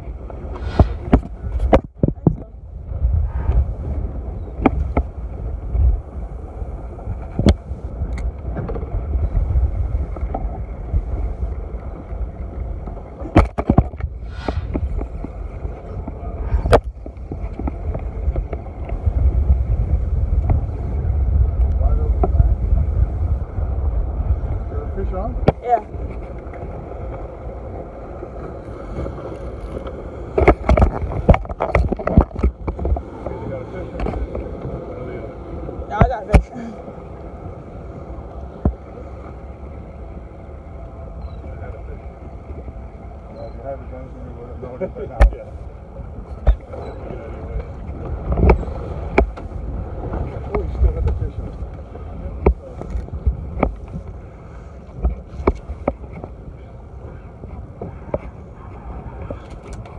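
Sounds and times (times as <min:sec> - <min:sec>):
wind and water rumble: 0:00.0 - 0:59.9.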